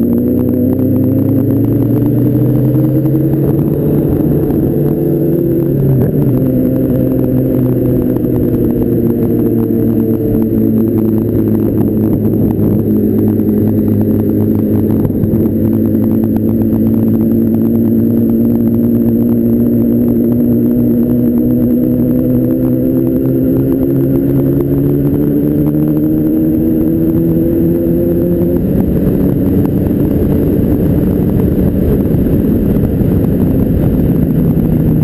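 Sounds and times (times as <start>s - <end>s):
sport motorcycle engine running: 0.0s - 35.0s.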